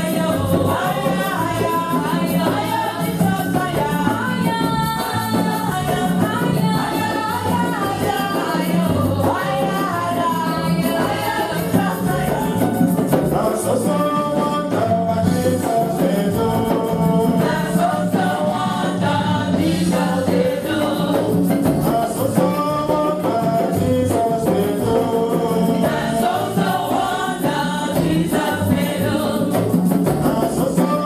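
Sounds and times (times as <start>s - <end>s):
group singing gospel music: 0.0s - 31.0s.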